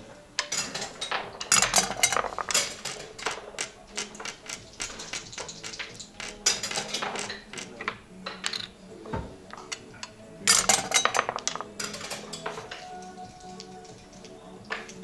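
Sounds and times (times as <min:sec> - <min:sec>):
wooden checkers clicking on board: 0:00.4 - 0:15.0.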